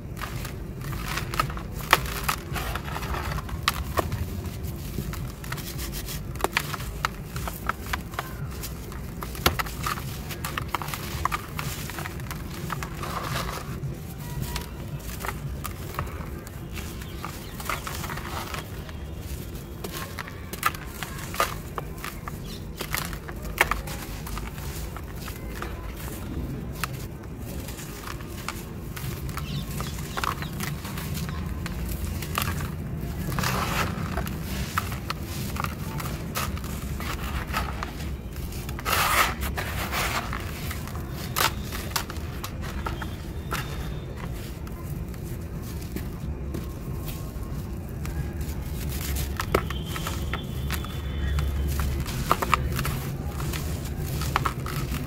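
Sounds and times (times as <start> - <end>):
sand-cement lumps crumbling by hand: 0.0 - 55.0.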